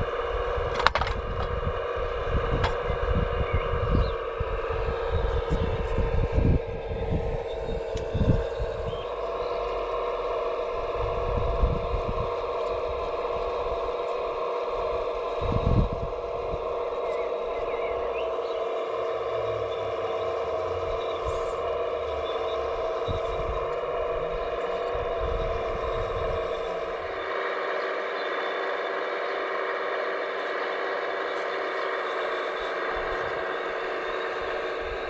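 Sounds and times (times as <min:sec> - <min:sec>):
small electric motor whining: 0:00.0 - 0:35.0.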